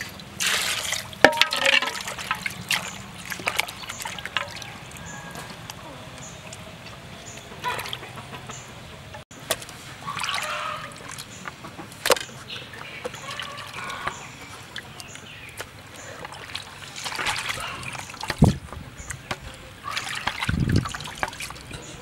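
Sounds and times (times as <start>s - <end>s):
water splashes: 0.0s - 8.5s, 9.4s - 21.9s
water sloshing and trickling: 0.0s - 22.0s.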